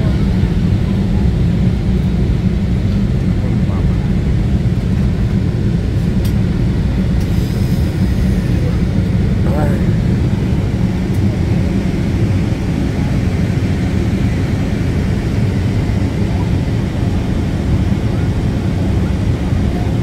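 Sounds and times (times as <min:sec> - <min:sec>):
airliner cabin engine drone: 0:00.0 - 0:20.0.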